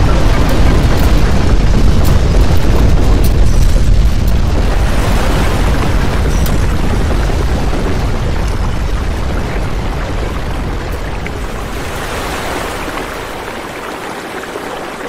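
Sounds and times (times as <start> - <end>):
sharp crackles: 0.0 - 14.8
earthquake rumble: 0.0 - 15.0.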